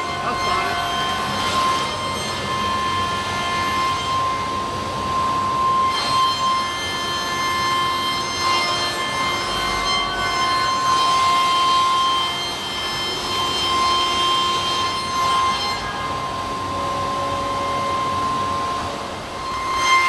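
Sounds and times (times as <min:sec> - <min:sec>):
milling spindle whine: 0:00.0 - 0:20.0.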